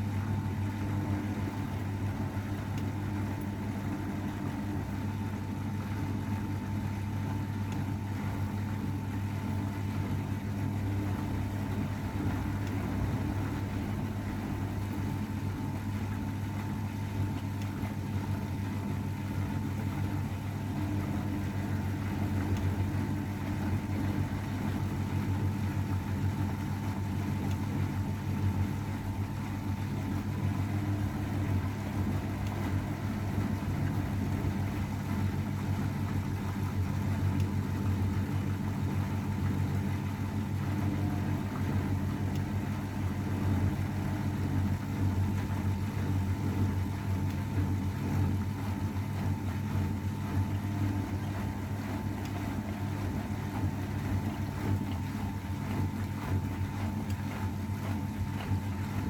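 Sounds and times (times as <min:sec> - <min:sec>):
washing machine running: 0:00.0 - 0:59.0.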